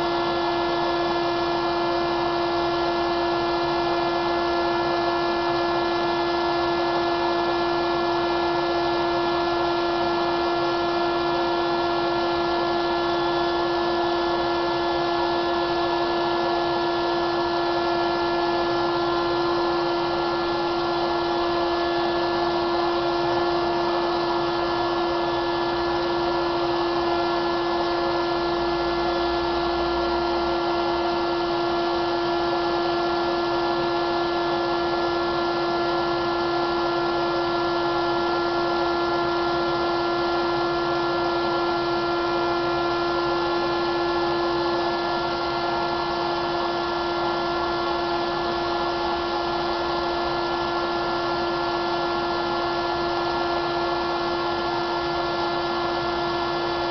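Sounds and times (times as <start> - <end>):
electric blower running: 0.0 - 56.9.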